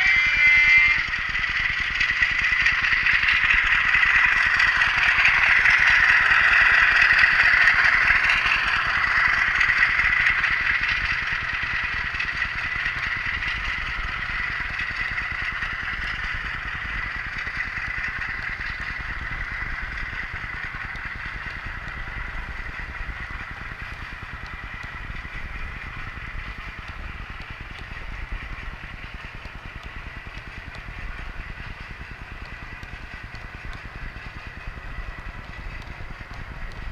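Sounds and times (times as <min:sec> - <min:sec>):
model train motor hum: 0:00.0 - 0:36.9
wheels clattering on rails: 0:00.0 - 0:36.9.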